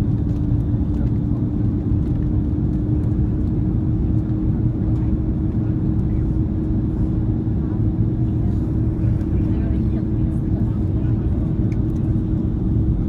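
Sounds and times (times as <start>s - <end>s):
airplane engines rumbling: 0.0s - 13.0s
constant hum: 0.0s - 13.0s.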